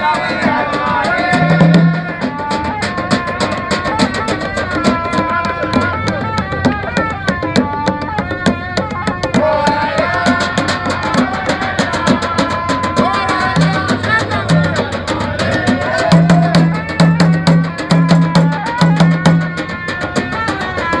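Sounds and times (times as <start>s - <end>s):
drums in fast rhythm: 0.0s - 21.0s
voices over drums: 0.0s - 21.0s.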